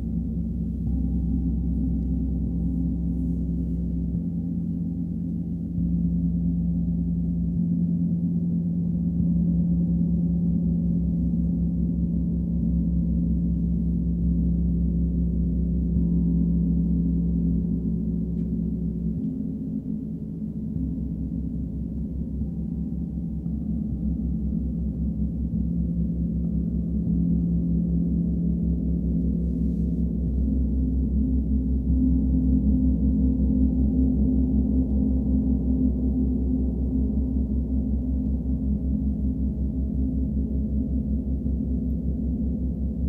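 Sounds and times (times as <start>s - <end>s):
deep gong drone: 0.0s - 43.0s.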